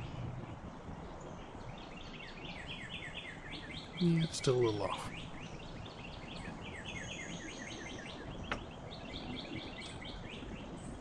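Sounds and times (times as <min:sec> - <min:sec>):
songbird singing downward notes: 0:01.4 - 0:10.7.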